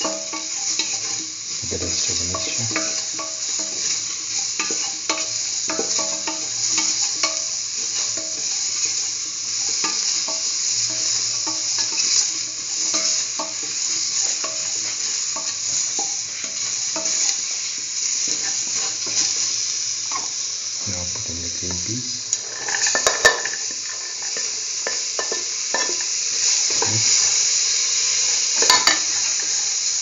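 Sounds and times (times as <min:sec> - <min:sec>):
utensil scraping and clinking a pot: 0:00.0 - 0:27.4, 0:28.6 - 0:29.6
vegetables sizzling in oil: 0:00.0 - 0:30.0.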